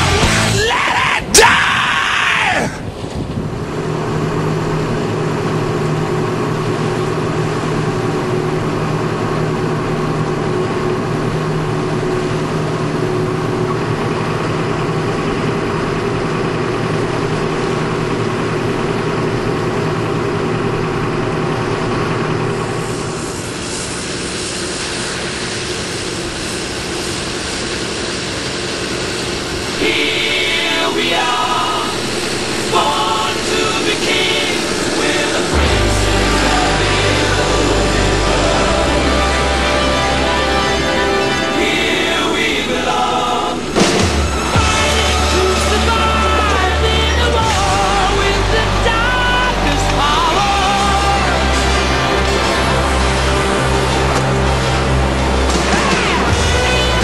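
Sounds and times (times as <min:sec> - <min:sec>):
tractor diesel engine under load: 0:00.0 - 0:00.8, 0:02.4 - 0:57.0.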